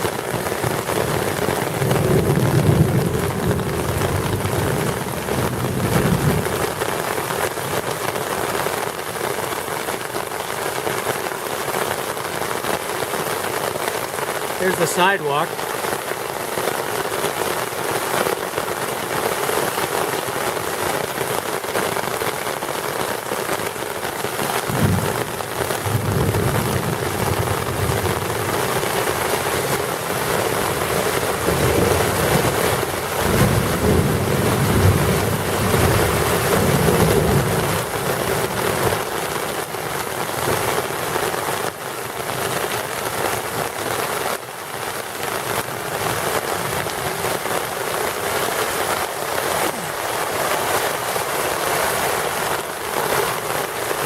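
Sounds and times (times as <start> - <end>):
heavy rain on street: 0.0 - 54.0.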